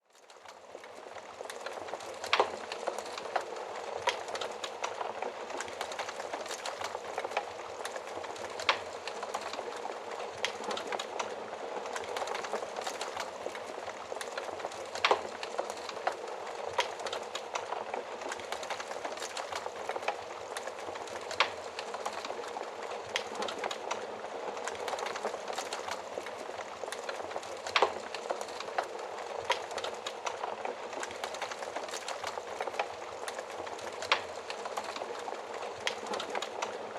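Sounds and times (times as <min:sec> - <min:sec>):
wood fire crackling: 0:00.2 - 0:36.9.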